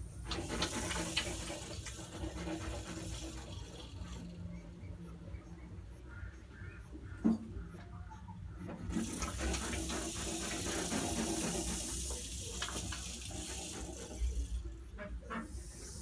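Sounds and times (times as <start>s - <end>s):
animals moving and feeding clicks: 0.2s - 7.1s, 8.6s - 15.5s
porcupine quills rattling: 0.2s - 7.8s, 8.5s - 15.7s.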